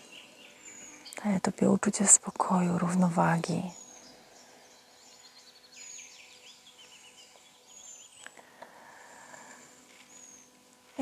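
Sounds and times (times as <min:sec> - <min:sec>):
birds chirping and trilling: 0:00.0 - 0:10.8
faint steady hum: 0:00.0 - 0:11.0.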